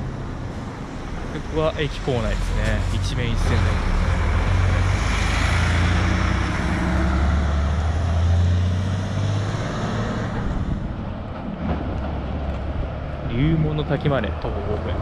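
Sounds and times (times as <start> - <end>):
truck engine hum: 0.0 - 15.0.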